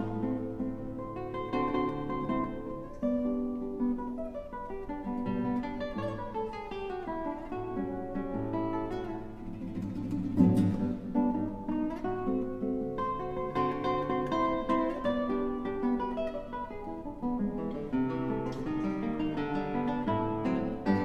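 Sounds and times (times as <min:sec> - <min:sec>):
classical guitar plucked notes: 0:00.0 - 0:21.0.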